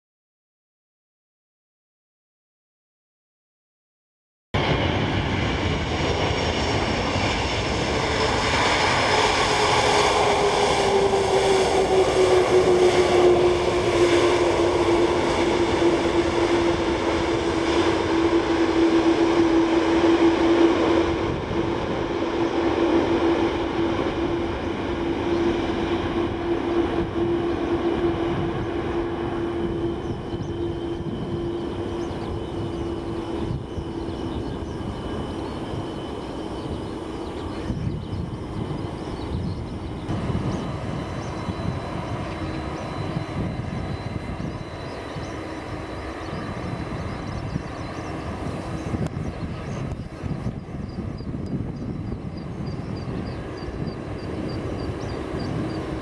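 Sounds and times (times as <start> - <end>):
jet engines rumbling and whining: 4.6 - 56.0.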